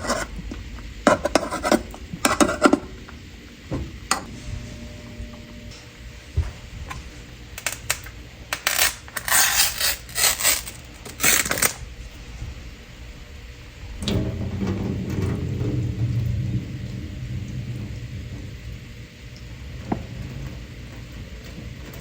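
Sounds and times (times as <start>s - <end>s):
low rumbling noise: 0.0s - 22.0s.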